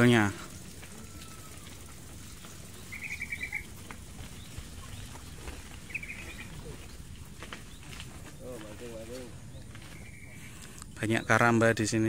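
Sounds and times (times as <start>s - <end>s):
low rumble: 0.0s - 11.0s
bicycles clicking on dirt path: 0.0s - 12.0s
bird trilling: 0.9s - 11.4s.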